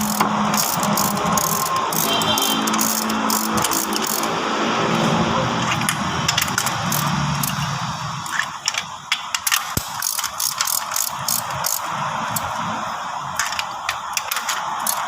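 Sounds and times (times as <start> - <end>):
ratchet wrench clicking: 0.0 - 4.4, 5.6 - 12.6, 13.3 - 15.0.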